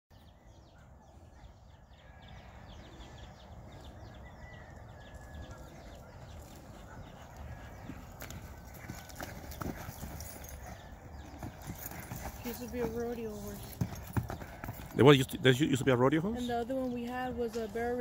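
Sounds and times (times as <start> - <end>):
small birds chirping: 0.1 - 18.0
horse hoofbeats on soft dirt: 3.6 - 18.0.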